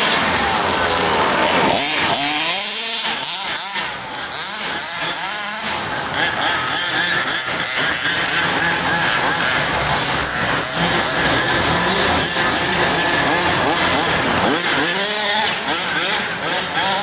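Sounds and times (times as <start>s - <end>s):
rc car motors whining: 0.0s - 17.0s.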